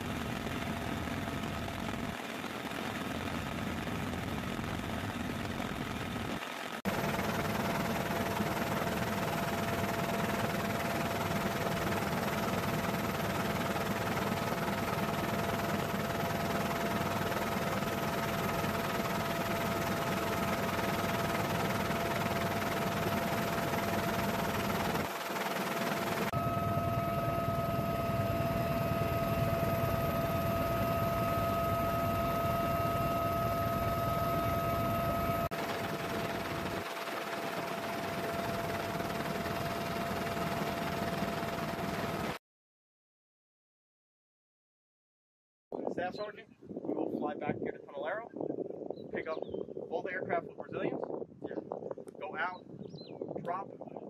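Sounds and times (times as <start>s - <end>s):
helicopter turbine and rotor: 0.0s - 42.4s, 45.8s - 54.0s.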